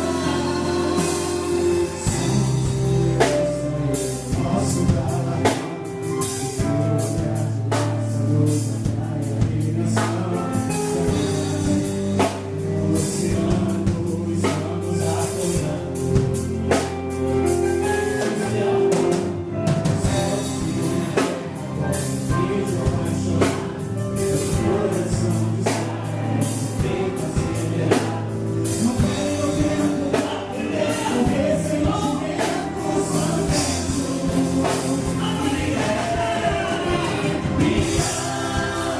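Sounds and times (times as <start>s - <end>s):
drum kit: 0.0s - 38.9s
gospel band playing: 0.0s - 38.9s
people singing together: 0.0s - 38.9s.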